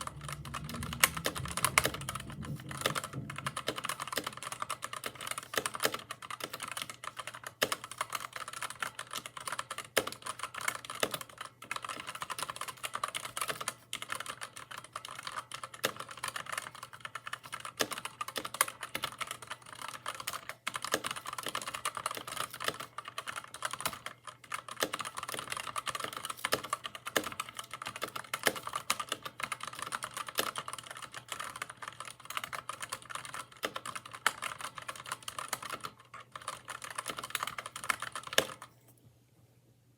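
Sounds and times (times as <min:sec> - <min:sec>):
mechanical keyboard typing: 0:00.0 - 0:38.7.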